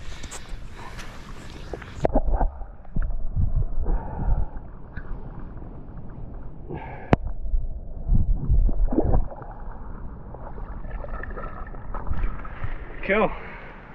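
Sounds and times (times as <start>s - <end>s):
muffled underwater sloshing: 0.0s - 13.9s.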